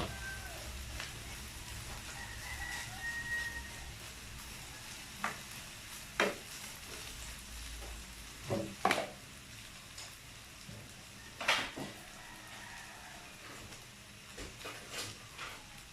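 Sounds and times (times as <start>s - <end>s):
fried rice sizzling in pan: 0.0s - 15.9s.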